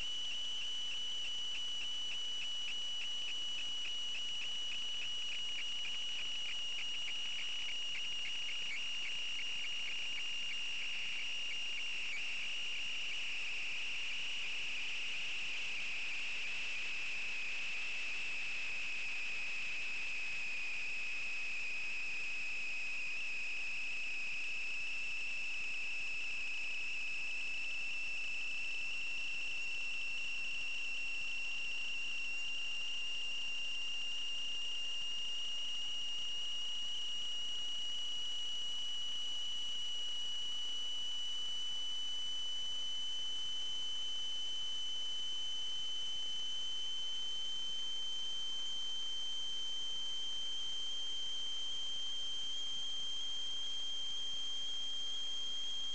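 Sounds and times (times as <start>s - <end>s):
high-pitched electronic whine: 0.0s - 55.9s.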